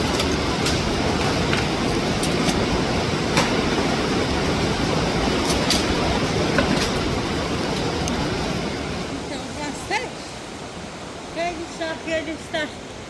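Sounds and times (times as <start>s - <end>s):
rushing waterfall and stream: 0.0s - 13.0s.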